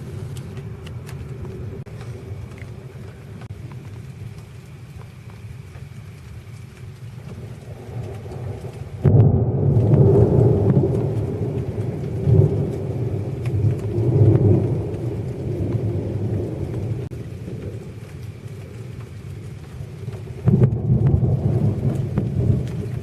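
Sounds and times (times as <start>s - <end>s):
raindrop ticks: 0.0s - 23.0s
steady rain: 0.0s - 23.0s
thunder clap and rumble: 0.0s - 23.0s.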